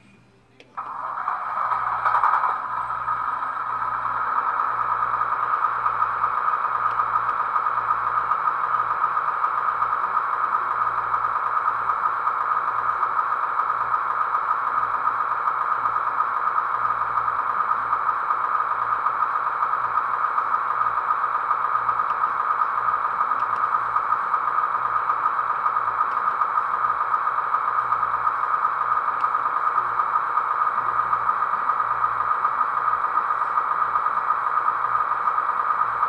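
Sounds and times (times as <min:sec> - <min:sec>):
model diesel engine sound from speaker: 0:00.0 - 0:36.0.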